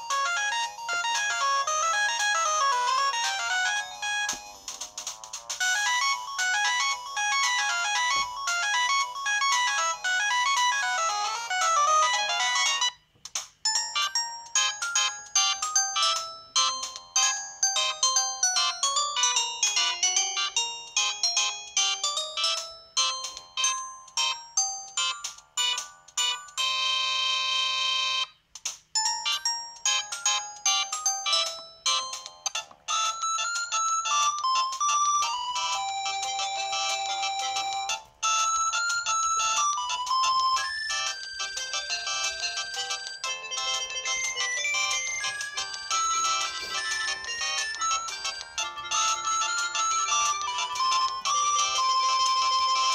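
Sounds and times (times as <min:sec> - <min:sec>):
phone ringtone melodies: 0:00.0 - 0:13.0, 0:13.6 - 0:28.4, 0:29.0 - 0:52.9.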